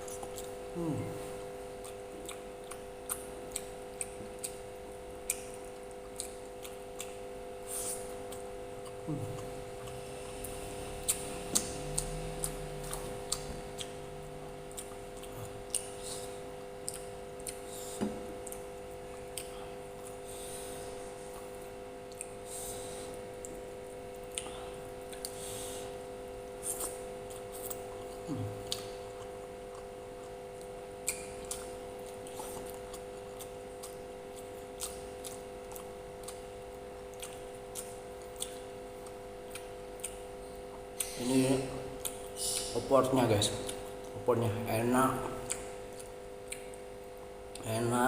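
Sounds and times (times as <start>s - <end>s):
chewing and wet mouth sounds: 0.0s - 48.0s
steady hum: 0.0s - 48.0s.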